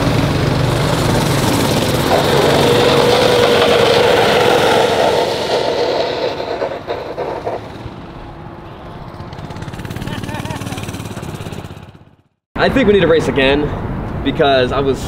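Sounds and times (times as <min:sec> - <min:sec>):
mini bike engine passing: 0:00.0 - 0:12.2.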